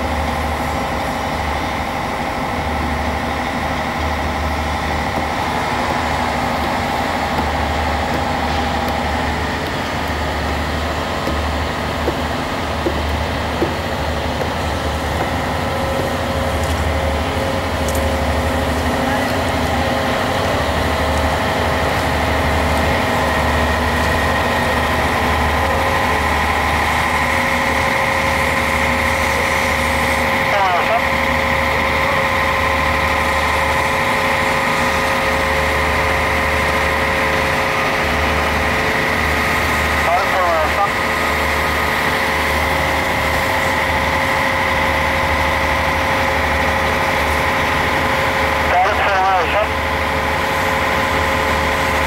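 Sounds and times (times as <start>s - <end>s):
crane diesel engine running: 0.0s - 52.0s
steady high whine: 0.0s - 52.0s.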